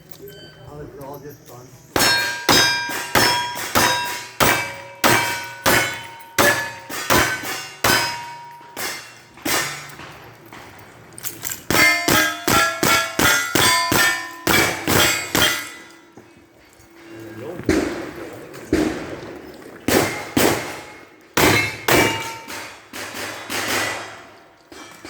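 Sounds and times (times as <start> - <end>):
steel plates ringing: 0.0 - 10.5, 11.2 - 17.3, 20.1 - 25.0.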